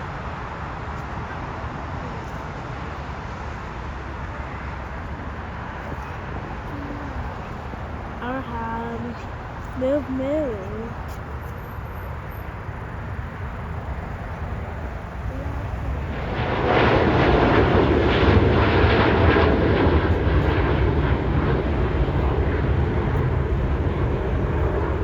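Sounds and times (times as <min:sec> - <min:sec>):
jet engines rumbling: 0:03.8 - 0:25.0.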